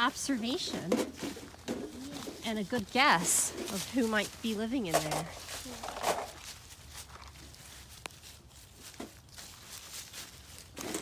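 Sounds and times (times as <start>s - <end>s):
footsteps of people walking: 0.0s - 11.0s
rustling: 0.0s - 11.0s.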